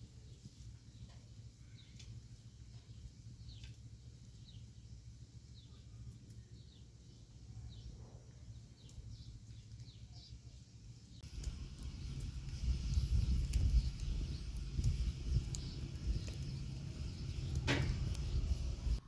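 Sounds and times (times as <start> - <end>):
faint bird chirps: 0.0 - 19.0
steady low rumble: 0.0 - 19.0.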